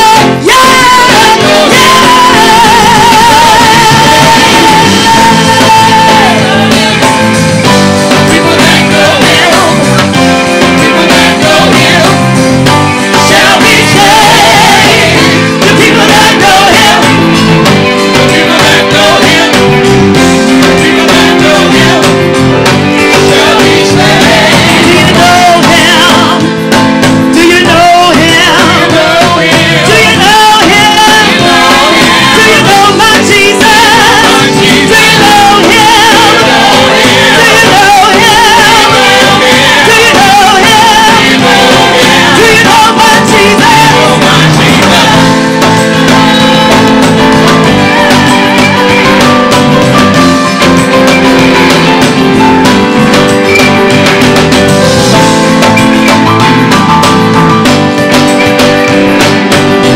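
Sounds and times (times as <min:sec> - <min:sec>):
voices singing: 0:00.0 - 0:56.3
gospel instrumental accompaniment: 0:00.0 - 0:59.9.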